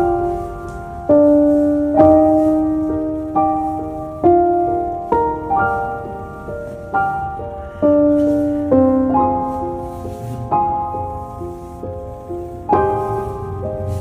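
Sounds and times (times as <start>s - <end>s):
slow solo piano music: 0.0s - 14.0s.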